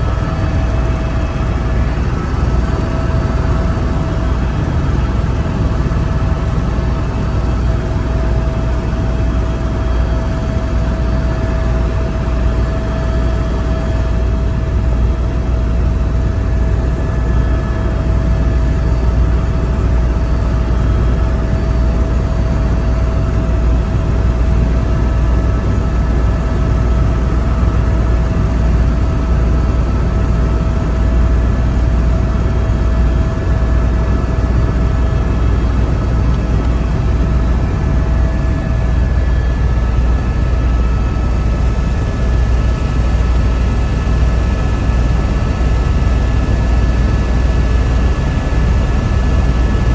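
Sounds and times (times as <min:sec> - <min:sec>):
faint steady whine: 0:00.0 - 0:49.9
helicopter rotor and engine drone: 0:00.0 - 0:49.9.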